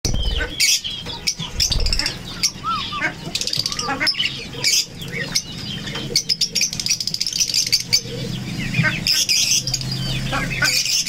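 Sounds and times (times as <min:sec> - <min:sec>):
birds chattering and chirping: 0:00.0 - 0:11.0.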